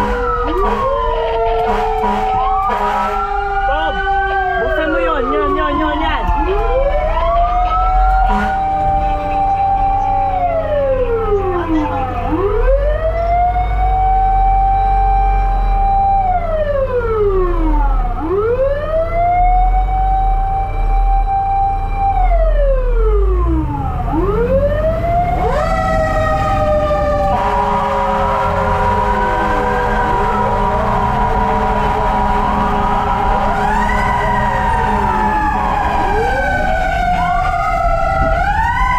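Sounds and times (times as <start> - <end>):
fire engine wail siren: 0.0 - 38.9
steady siren-like tone: 0.0 - 38.9
truck engine rumble: 0.0 - 38.9.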